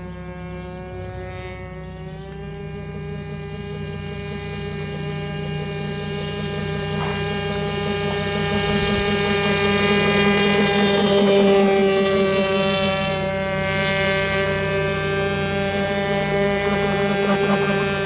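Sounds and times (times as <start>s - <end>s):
model boat engine buzzing: 0.0s - 18.0s.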